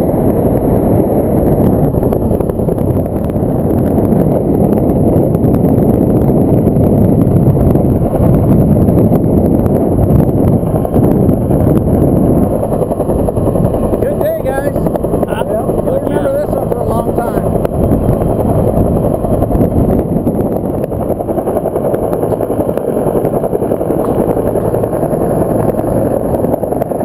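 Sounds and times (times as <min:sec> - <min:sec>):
helicopter noise: 0:00.0 - 0:27.0
wind buffeting microphone: 0:00.0 - 0:27.0.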